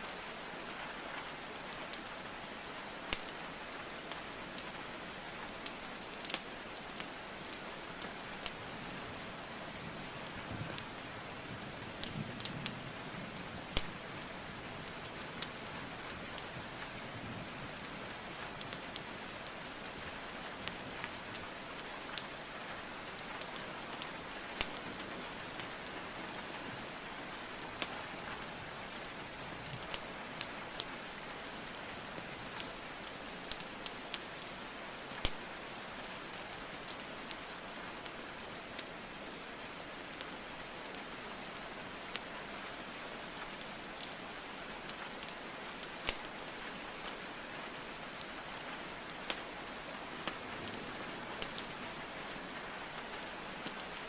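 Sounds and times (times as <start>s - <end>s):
rain hiss: 0.0s - 54.0s
burning logs crackling: 1.6s - 54.0s.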